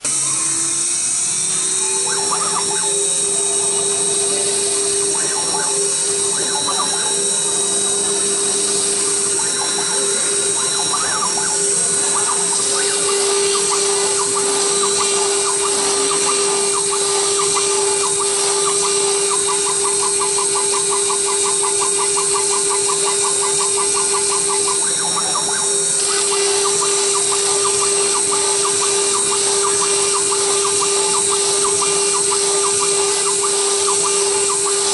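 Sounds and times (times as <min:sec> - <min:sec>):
fast ticking of cutting bit: 0:00.0 - 0:34.9
router spindle whine: 0:00.0 - 0:34.9.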